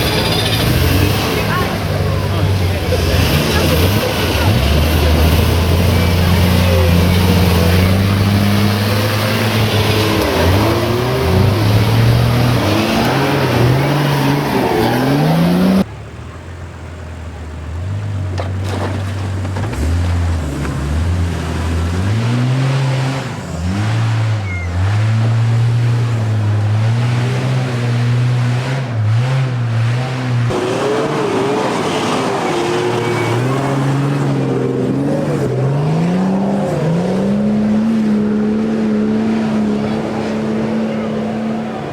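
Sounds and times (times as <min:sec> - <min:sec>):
off-road engine revving: 0:00.0 - 0:41.9.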